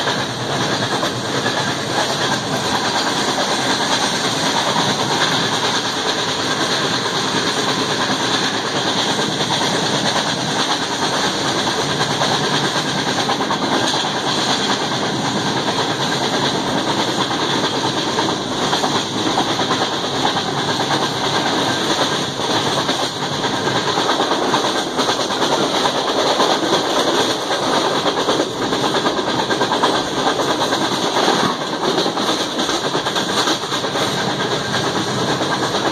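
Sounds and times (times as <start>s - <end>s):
train wheel and rail noise: 0.0s - 35.9s.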